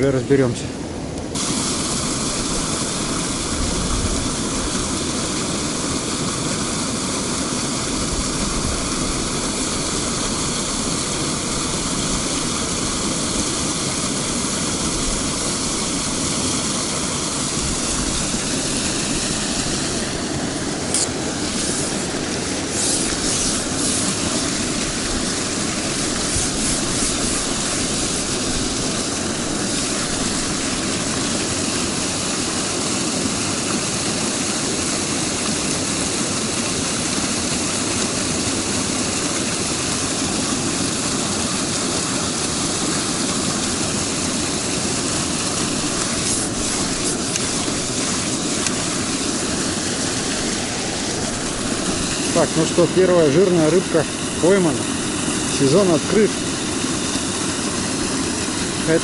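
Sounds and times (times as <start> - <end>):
water pouring into stream: 1.4 - 59.0.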